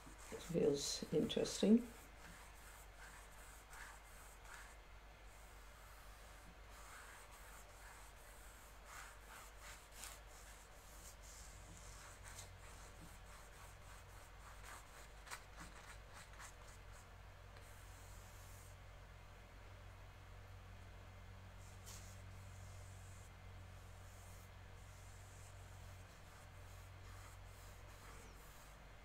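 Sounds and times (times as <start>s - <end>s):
paintbrush scratching on canvas: 0.0s - 17.0s, 17.6s - 18.8s, 21.6s - 28.8s
low steady hum: 0.0s - 29.0s.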